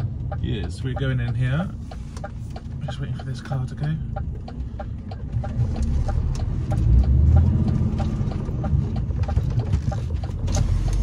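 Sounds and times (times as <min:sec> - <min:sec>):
turn signal ticking: 0:00.0 - 0:11.0.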